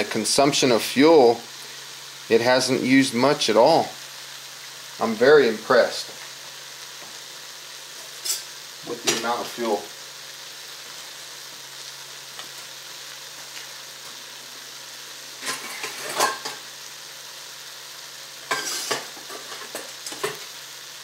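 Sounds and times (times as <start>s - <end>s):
eggs sizzling in pan: 0.0s - 21.0s.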